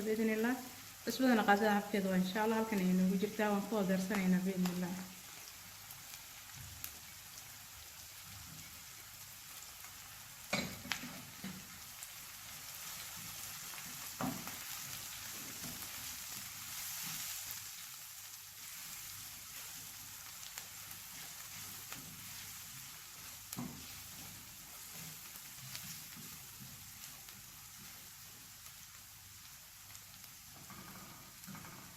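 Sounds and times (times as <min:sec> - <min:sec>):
onion sizzling in a pan: 0:00.0 - 0:31.9.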